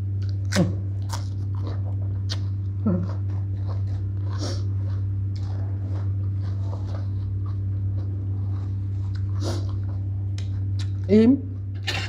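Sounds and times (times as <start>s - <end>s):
steady low hum: 0.0s - 12.0s
wet chewing and mouth smacks: 0.2s - 11.1s.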